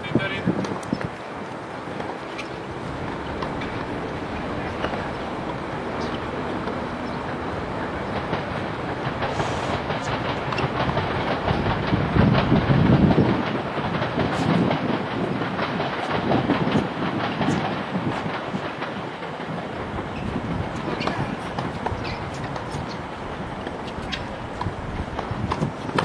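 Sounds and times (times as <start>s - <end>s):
passing train rumble and clatter: 0.0s - 26.0s.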